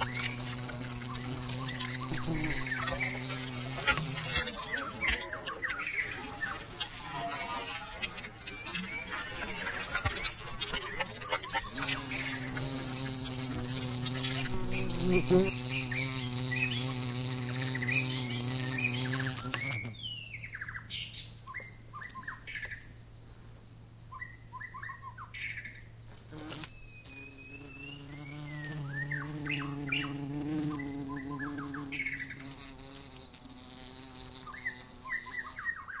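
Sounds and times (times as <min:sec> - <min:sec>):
flying insect buzzing: 0:00.0 - 0:20.0, 0:26.1 - 0:35.8
bird chirps: 0:00.0 - 0:23.0, 0:24.0 - 0:36.0.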